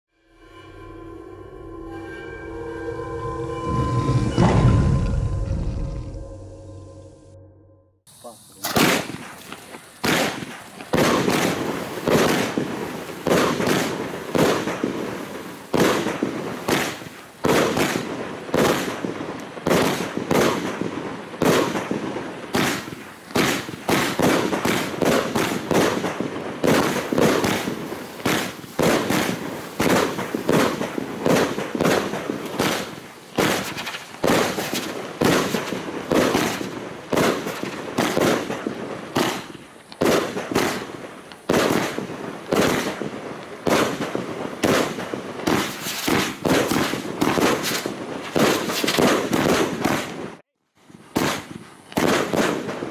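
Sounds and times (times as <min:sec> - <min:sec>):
fireworks firing: 0:08.1 - 0:52.9.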